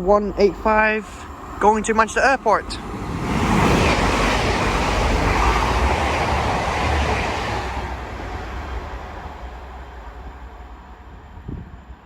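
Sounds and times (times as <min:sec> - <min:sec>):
rail noise: 0:00.0 - 0:12.0
train passing at speed: 0:00.0 - 0:12.0.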